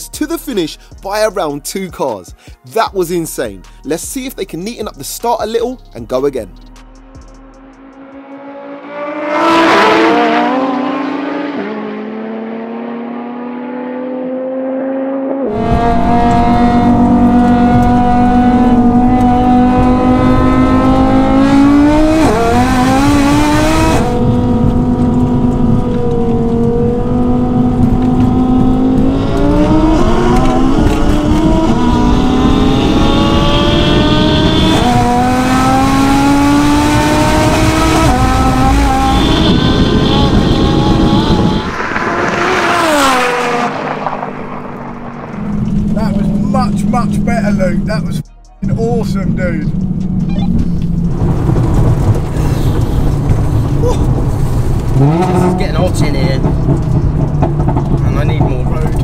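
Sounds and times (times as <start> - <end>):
car engine accelerating: 6.3 - 59.0.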